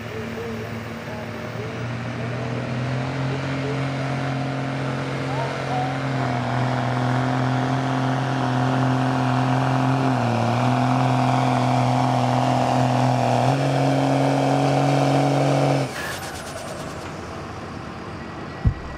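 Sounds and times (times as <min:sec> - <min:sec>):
diesel engine revving under load: 0:00.0 - 0:18.9.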